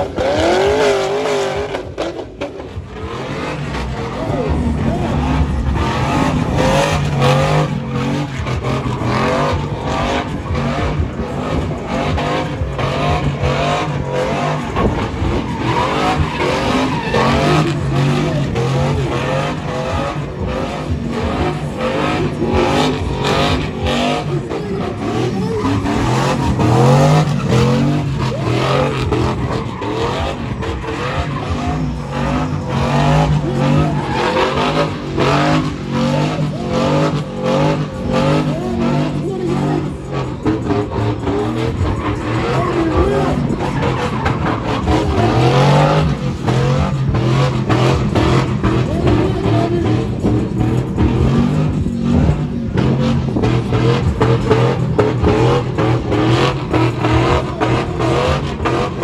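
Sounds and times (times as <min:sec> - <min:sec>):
car engine revving: 0:00.0 - 0:59.0
tires screeching: 0:00.0 - 0:59.0.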